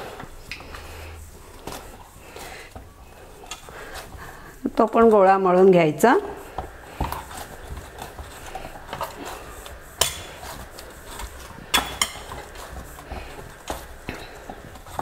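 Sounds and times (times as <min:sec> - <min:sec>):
hands kneading dough: 0:00.0 - 0:15.0.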